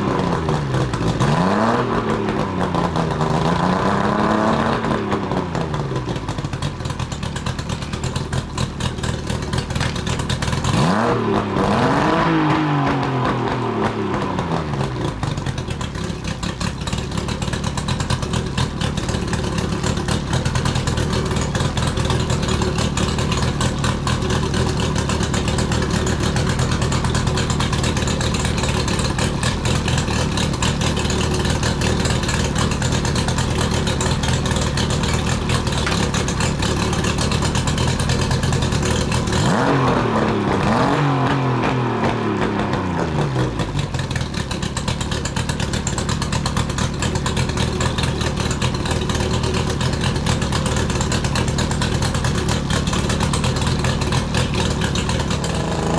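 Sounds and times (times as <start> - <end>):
outboard motor running: 0.0 - 55.9.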